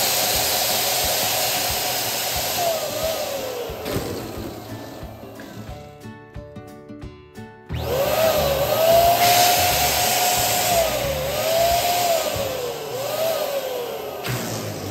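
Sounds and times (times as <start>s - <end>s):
air hissing: 0.0s - 5.8s, 8.2s - 14.9s
electric pump motor whine: 0.0s - 5.8s, 7.7s - 14.9s.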